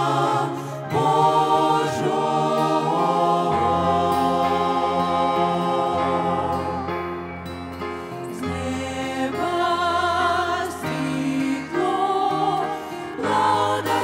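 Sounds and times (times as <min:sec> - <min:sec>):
choir singing sustained chords: 0:00.0 - 0:14.0.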